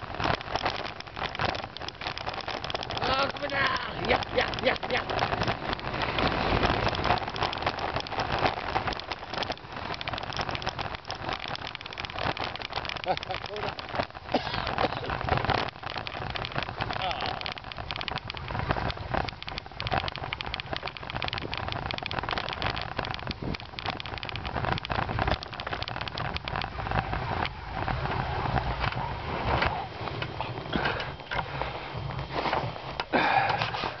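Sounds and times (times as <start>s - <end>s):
bicycle tyres crunching snow: 0.0s - 34.0s
dog paws pattering on snow: 0.0s - 34.0s.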